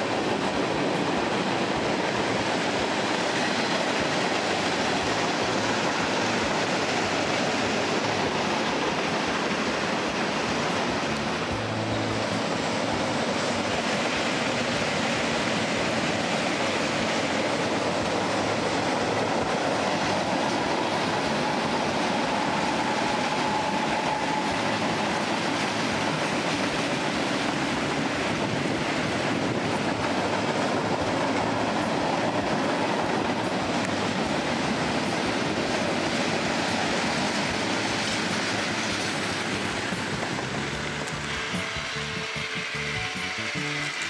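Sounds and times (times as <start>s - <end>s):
train wheels on rail: 0.0s - 44.0s.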